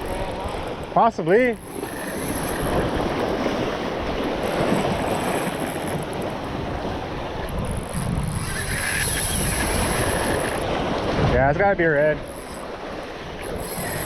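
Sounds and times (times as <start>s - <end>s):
waves washing at a jetty: 0.0s - 14.0s
wind buffeting microphone: 1.6s - 14.0s.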